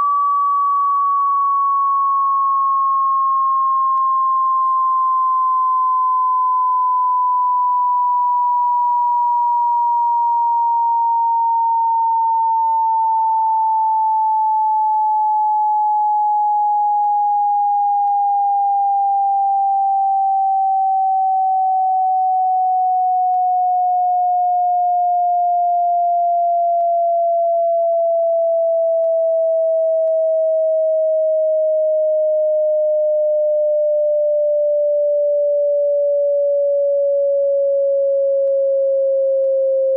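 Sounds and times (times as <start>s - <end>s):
sine tone sweeping down: 0.0s - 39.9s.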